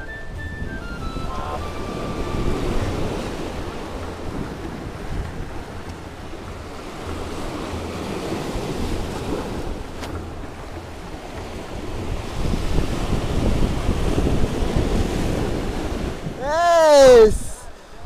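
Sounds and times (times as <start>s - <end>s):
wind buffeting microphone: 0.0s - 18.0s
surf breaking over rocks: 1.3s - 17.6s.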